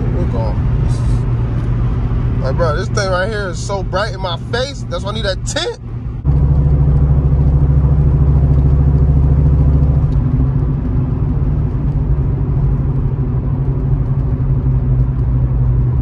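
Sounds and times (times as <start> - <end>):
deep exhaust drone: 0.0 - 16.0.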